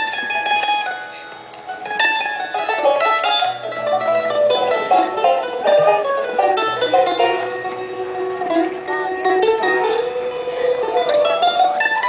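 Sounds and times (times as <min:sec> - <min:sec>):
bluegrass band playing: 0:00.0 - 0:12.0
mandolin runs: 0:00.0 - 0:12.0
picked banjo runs: 0:00.0 - 0:12.0
low bass notes: 0:01.5 - 0:12.0.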